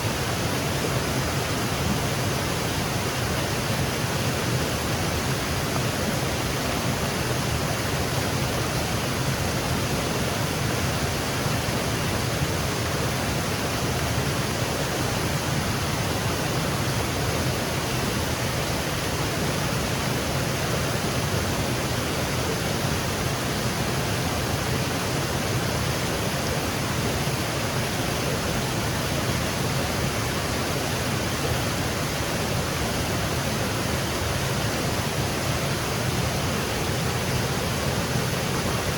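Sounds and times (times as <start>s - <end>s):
waterfall over rocks: 0.0s - 38.9s.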